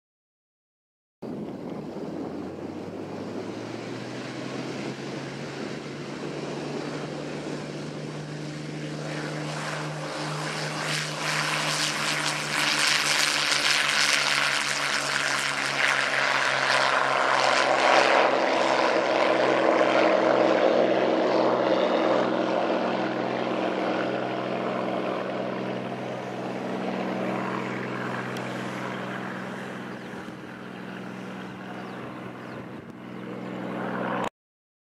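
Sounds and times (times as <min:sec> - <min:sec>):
piston aircraft engine at full power: 0:01.2 - 0:34.3.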